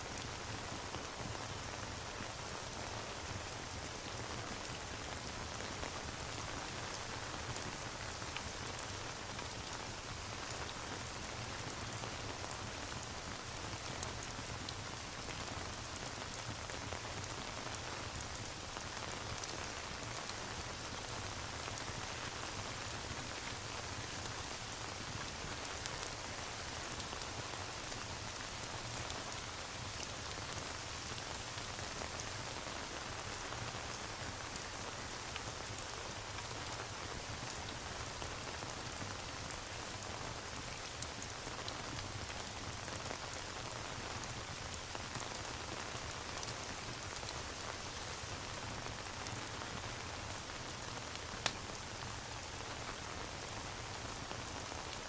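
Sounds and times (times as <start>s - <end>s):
rain pattering: 0.1s - 55.0s.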